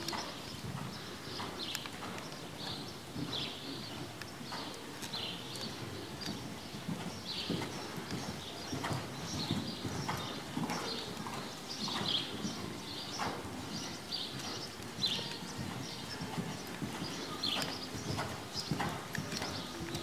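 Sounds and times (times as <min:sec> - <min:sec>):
horse hoofbeats on sand: 0:00.0 - 0:20.0.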